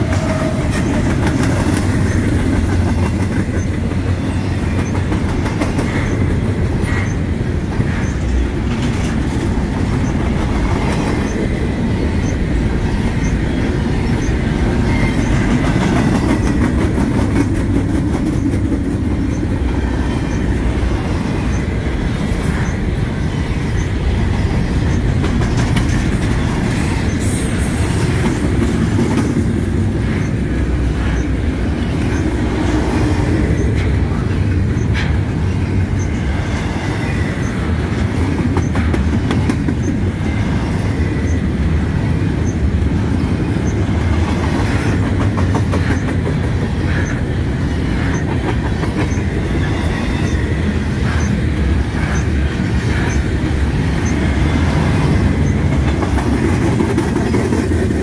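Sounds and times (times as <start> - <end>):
train wheels rumbling on rail: 0.0 - 58.0
wheels clicking over rail joints: 0.0 - 58.0.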